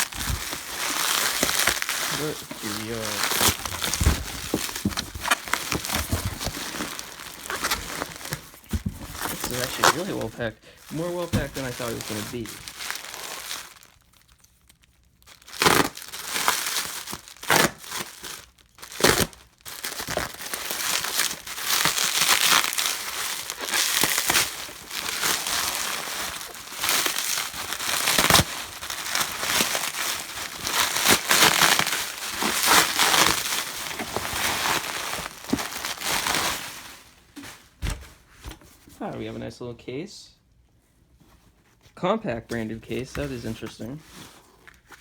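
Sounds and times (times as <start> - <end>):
packing material crinkling and tearing: 0.0 - 38.6.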